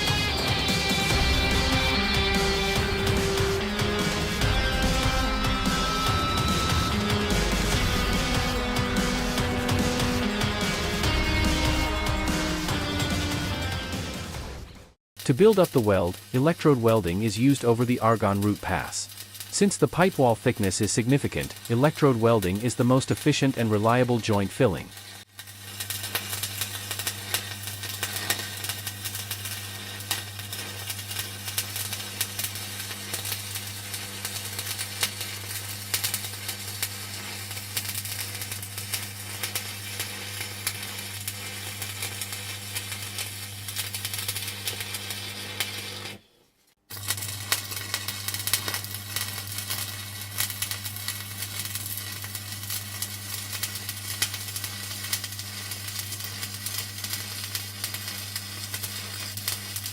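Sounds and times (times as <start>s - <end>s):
welding arc crackling: 0.0s - 14.0s, 15.2s - 46.2s, 46.9s - 59.9s.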